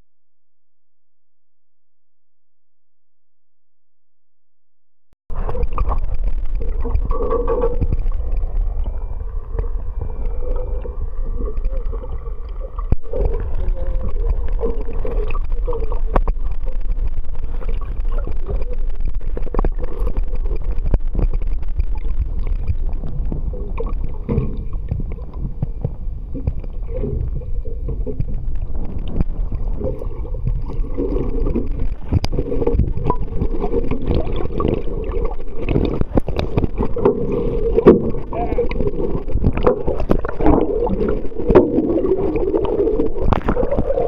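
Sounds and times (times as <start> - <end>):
muffled water rushing and gurgling: 5.3 - 44.0.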